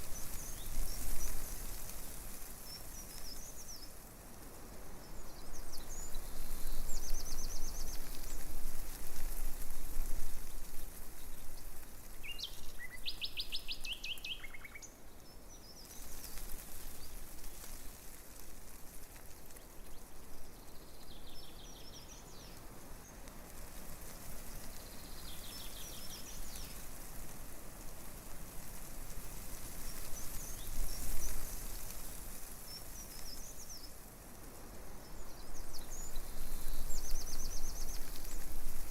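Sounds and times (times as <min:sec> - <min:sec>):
breeze through tree leaves: 0:00.0 - 0:38.9.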